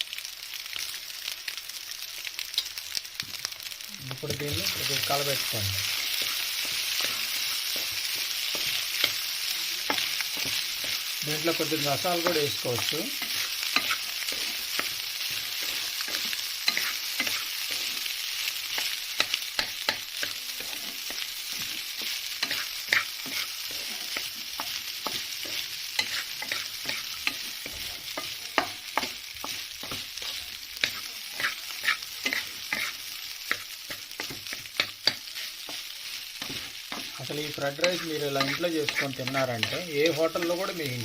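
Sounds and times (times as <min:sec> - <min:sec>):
rice sizzling in a pan: 0:00.0 - 0:41.0
spatula scraping a pan: 0:04.6 - 0:40.5.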